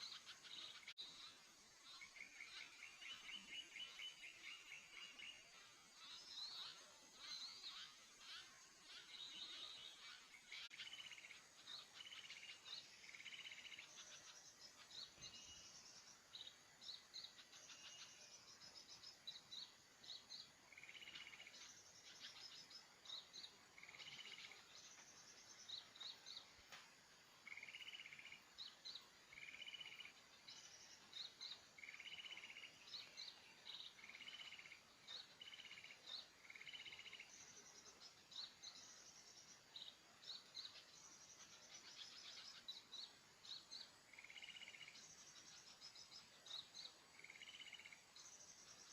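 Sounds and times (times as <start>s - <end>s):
small birds chirping and trilling: 0.0s - 48.9s.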